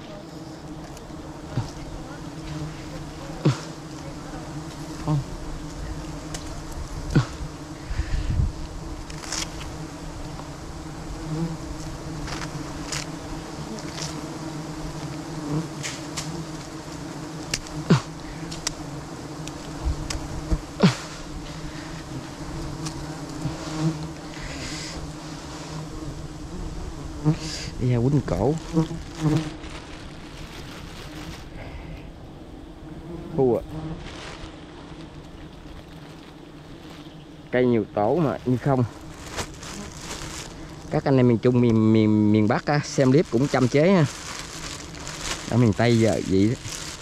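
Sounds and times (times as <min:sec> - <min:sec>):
bees buzzing: 0:00.0 - 0:47.0.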